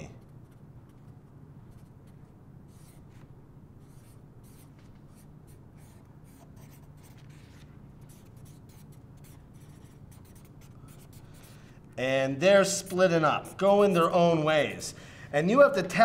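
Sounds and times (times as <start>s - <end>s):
low room hum: 0.0s - 16.0s
marker scratching on paper: 0.2s - 11.8s, 12.8s - 14.3s.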